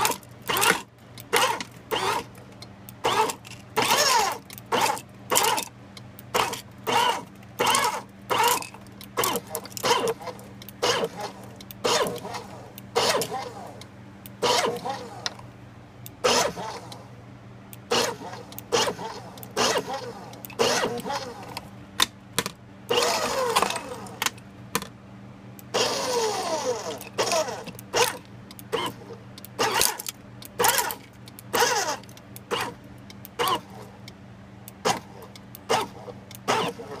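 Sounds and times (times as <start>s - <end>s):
shredder cracking plastic: 0.0s - 2.4s, 3.0s - 13.8s, 14.4s - 15.4s, 17.9s - 24.9s, 25.8s - 32.8s, 34.8s - 37.0s.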